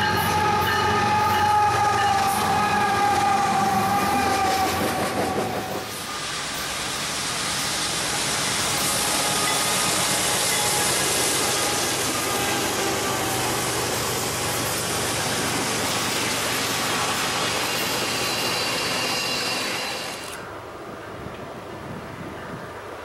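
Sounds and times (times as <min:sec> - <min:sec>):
distant train rumble: 0:00.0 - 0:23.0
freight train rolling past: 0:00.0 - 0:23.0.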